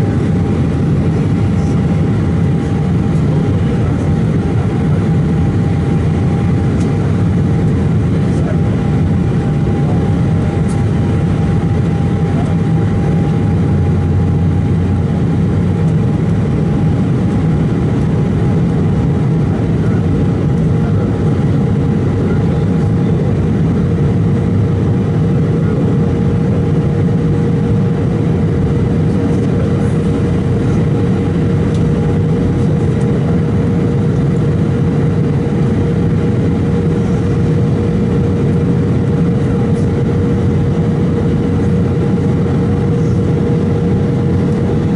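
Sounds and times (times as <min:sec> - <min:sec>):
jet engines droning: 0:00.0 - 0:44.9.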